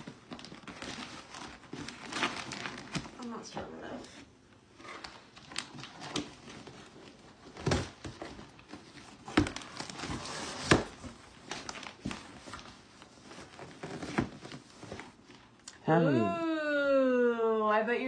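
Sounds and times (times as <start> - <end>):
cardboard rustling and crinkling: 0.0 - 15.6.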